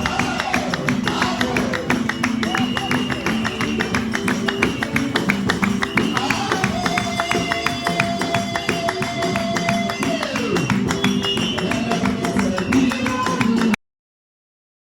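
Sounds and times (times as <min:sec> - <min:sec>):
fast percussive beat: 0:00.0 - 0:13.8
upbeat music with plucked guitar: 0:00.0 - 0:13.8.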